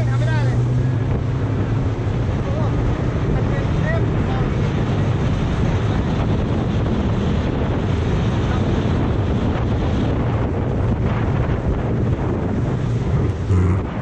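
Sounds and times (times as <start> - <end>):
outboard motor running: 0.0 - 14.0
water rushing along hull: 0.0 - 14.0
wind buffeting microphone: 0.0 - 14.0.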